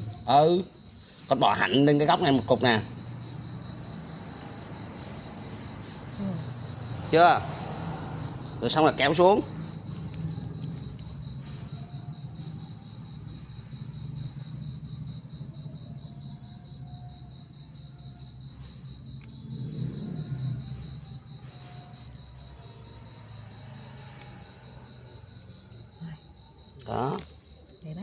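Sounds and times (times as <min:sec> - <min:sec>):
crickets trilling: 0:00.0 - 0:28.0.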